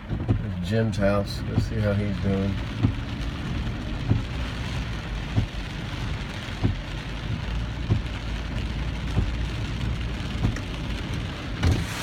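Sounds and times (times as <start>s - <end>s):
car engine and road noise: 0.0s - 12.0s
rain hissing on car: 0.0s - 12.0s.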